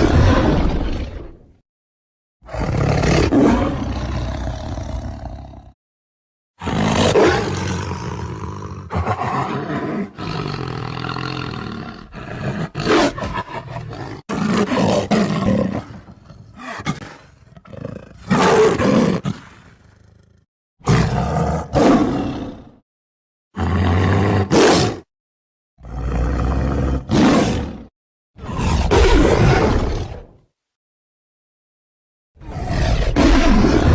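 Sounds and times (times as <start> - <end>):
tiger roaring and growling: 0.0 - 1.6, 2.4 - 5.8, 6.6 - 22.8, 23.6 - 25.1, 25.8 - 30.4, 32.4 - 33.9.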